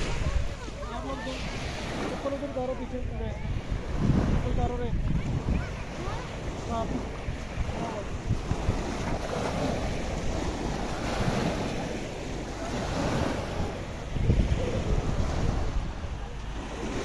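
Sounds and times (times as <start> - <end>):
small waves lapping on shore: 0.0 - 17.0
wind buffeting microphone: 0.0 - 17.0.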